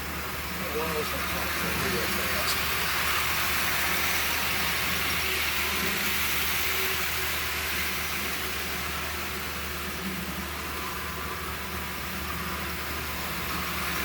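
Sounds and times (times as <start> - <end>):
model train whirring on track: 0.0 - 14.0.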